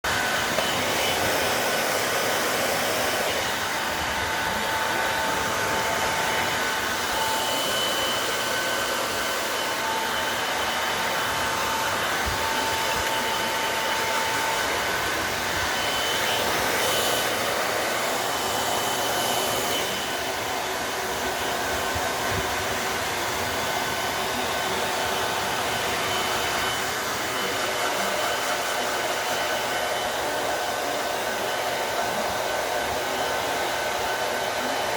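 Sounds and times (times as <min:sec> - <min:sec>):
pet dryer blowing air: 0:00.0 - 0:34.9.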